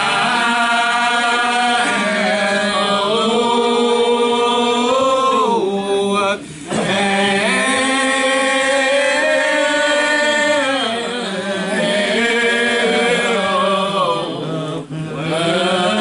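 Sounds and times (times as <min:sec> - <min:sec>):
gospel singing with held notes: 0:00.0 - 0:16.0.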